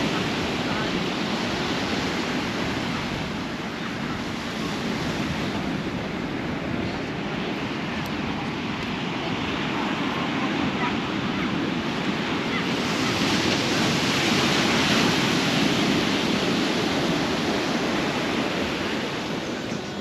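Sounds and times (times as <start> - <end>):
waves breaking on shore: 0.0 - 20.0.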